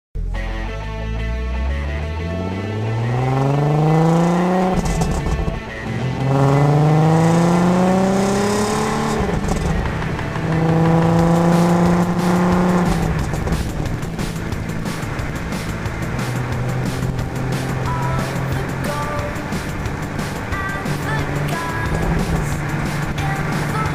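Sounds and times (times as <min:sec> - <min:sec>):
car exhaust accelerating: 0:00.2 - 0:23.9.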